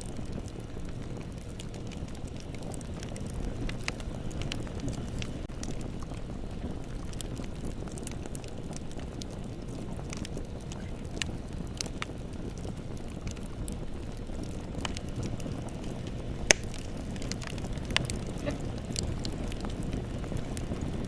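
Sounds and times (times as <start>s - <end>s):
bonfire crackling and snapping: 0.0s - 21.0s
fire popping sharply: 0.0s - 21.0s.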